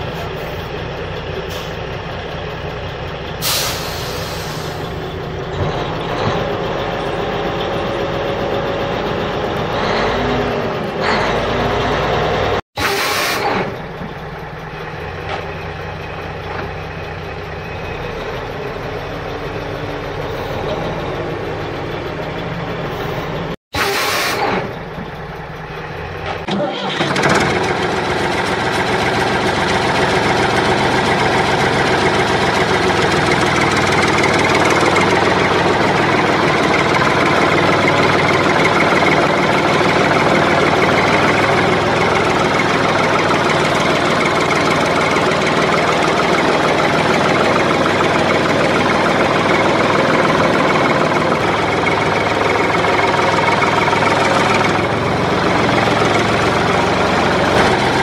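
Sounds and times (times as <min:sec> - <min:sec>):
engine starting and running: 0:00.0 - 0:58.0.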